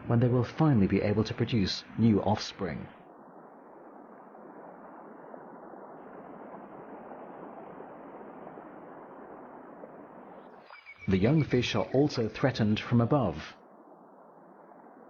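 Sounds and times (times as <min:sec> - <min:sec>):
flowing river water: 0:00.0 - 0:15.0.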